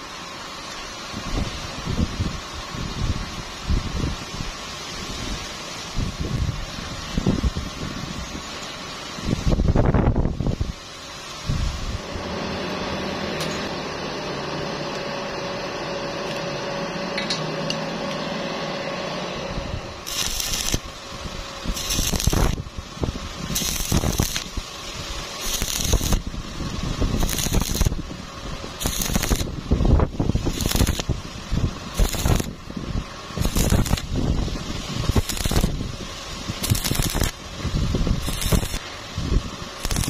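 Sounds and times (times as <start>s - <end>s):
welding arc crackling and hissing: 0.0s - 13.7s, 19.3s - 40.0s
steady electrical hum: 0.0s - 40.0s.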